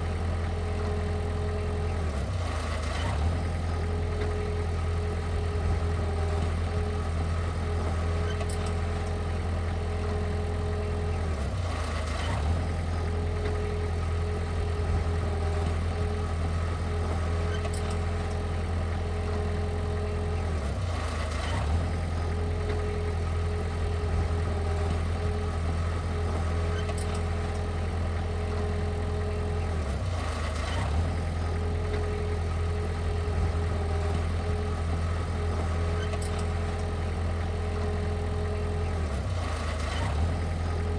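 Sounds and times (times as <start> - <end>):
diesel engine of earthmoving equipment: 0.0 - 40.9.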